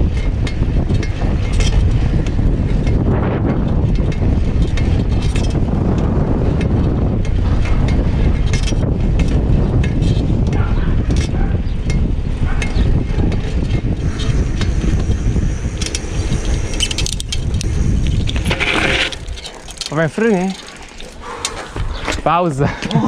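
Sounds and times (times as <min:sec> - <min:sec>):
bike clicks and rattles: 0:00.0 - 0:23.0
tyre noise on asphalt: 0:00.0 - 0:23.0
wind buffeting microphone: 0:00.0 - 0:23.0.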